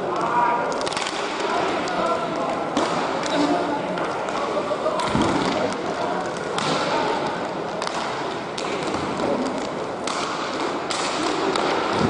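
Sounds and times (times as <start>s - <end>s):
hockey sticks and puck knocking: 0.0s - 12.0s.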